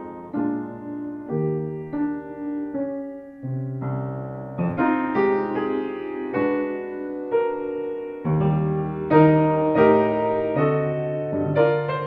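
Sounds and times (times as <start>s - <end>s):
upright piano playing chords: 0.0s - 12.0s.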